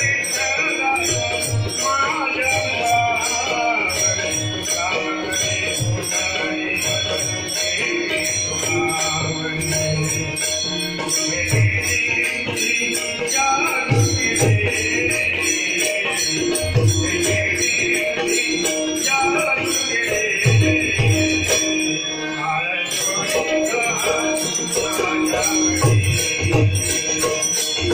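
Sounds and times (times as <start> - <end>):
hand cymbals jingling: 0.0 - 27.9.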